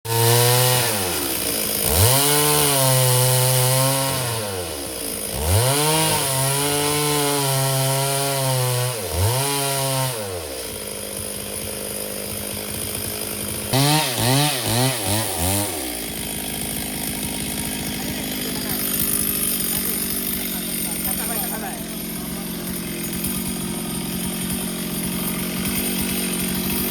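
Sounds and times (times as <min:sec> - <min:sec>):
chainsaw revving and idling: 0:00.1 - 0:26.9.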